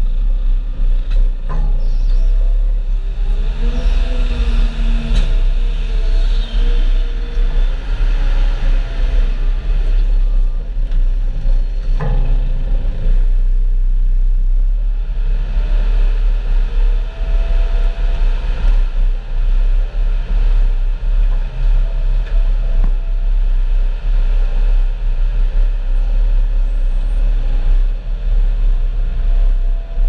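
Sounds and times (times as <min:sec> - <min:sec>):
farm vehicle engine rumbling: 0:00.0 - 0:30.0.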